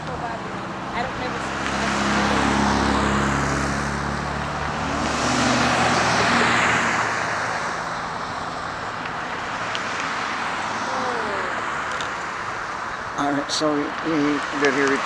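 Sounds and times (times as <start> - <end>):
traffic hum: 0.0 - 15.0
vehicle passing: 0.0 - 15.0.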